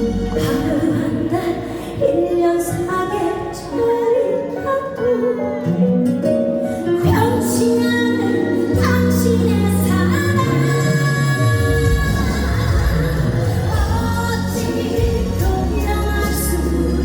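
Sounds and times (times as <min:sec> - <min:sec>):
instrumental accompaniment with bass: 0:00.0 - 0:17.0
woman singing: 0:00.0 - 0:17.0.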